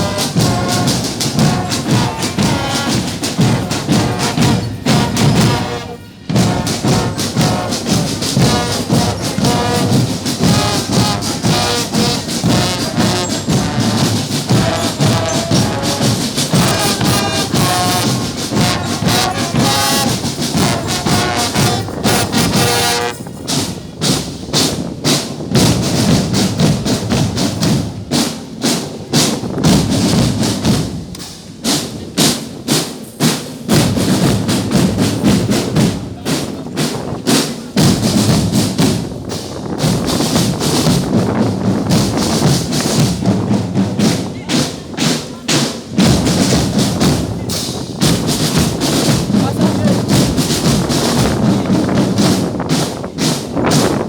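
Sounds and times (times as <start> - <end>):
brass band music: 0.0 - 54.0
drums striking steady rhythm: 0.0 - 54.0.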